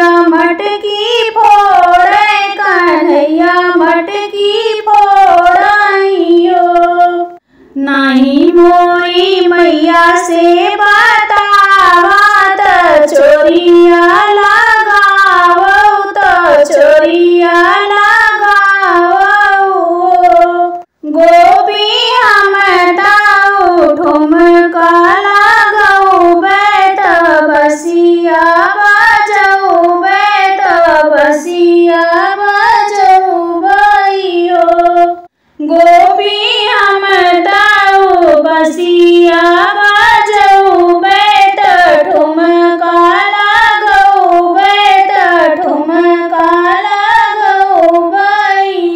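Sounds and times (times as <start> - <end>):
woman singing unaccompanied: 0.0 - 48.9.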